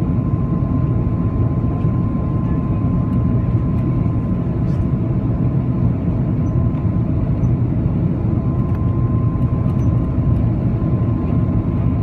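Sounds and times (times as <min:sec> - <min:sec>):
low rumble of engines and airflow: 0:00.0 - 0:12.0
thin steady whine: 0:00.0 - 0:12.0.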